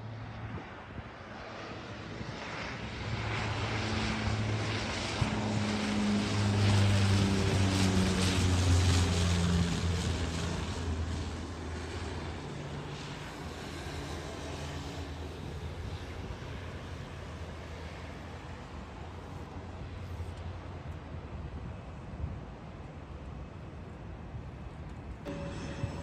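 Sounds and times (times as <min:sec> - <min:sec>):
airplane engines droning: 0:00.0 - 0:26.0.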